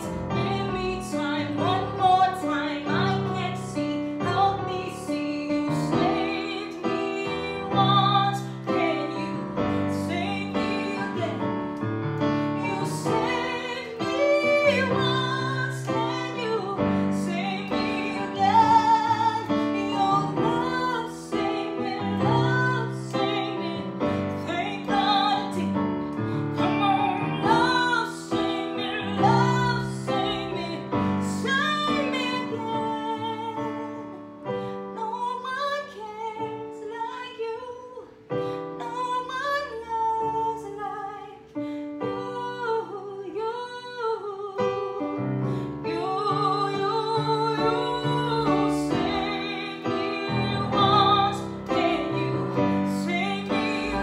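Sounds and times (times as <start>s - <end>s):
grand piano: 0.0s - 54.0s
woman singing a ballad: 0.0s - 54.0s.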